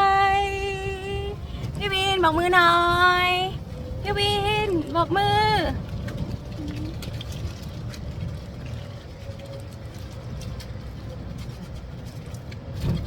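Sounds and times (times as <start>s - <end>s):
golf cart rumbling: 0.0s - 13.0s.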